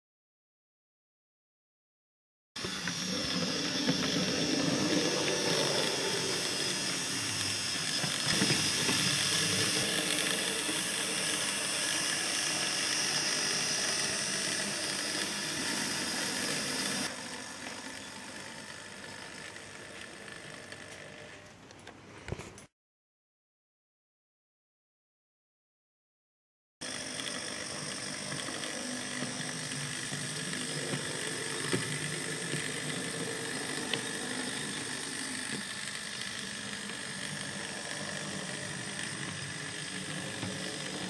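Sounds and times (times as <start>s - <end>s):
model train motor whirring: 2.6s - 22.0s, 26.8s - 41.0s.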